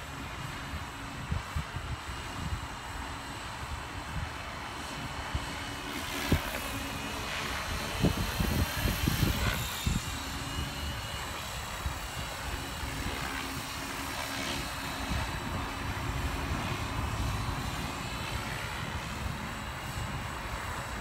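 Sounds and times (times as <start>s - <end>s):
model helicopter rotor whine: 0.0s - 21.0s.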